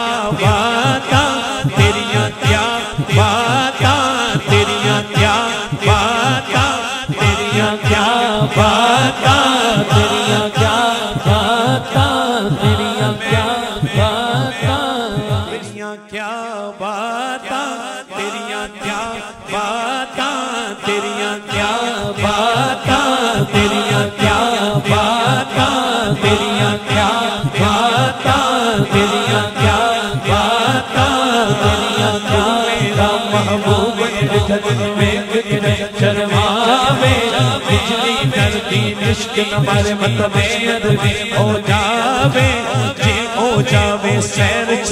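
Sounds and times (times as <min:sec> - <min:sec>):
man singing into microphone: 0:00.0 - 0:44.9.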